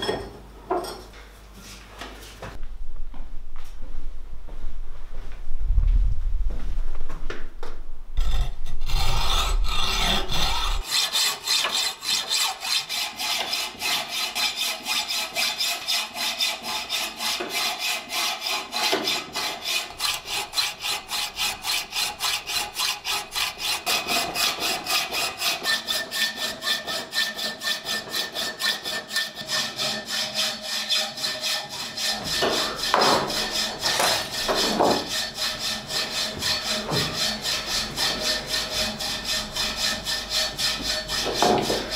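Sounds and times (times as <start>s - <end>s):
hacksaw rasping on metal: 8.2s - 41.9s.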